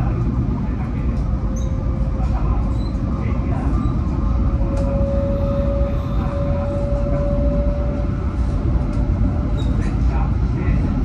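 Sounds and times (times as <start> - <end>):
thin train whine: 0.0 - 11.0
train cabin low rumble: 0.0 - 11.0.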